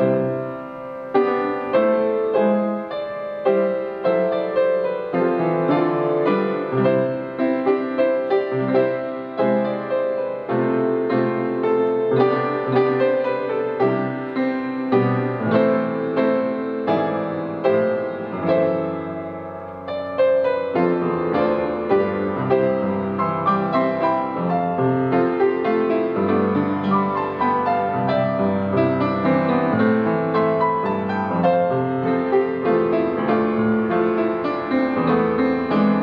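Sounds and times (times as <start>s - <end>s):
upright piano playing chords: 0.0s - 36.0s.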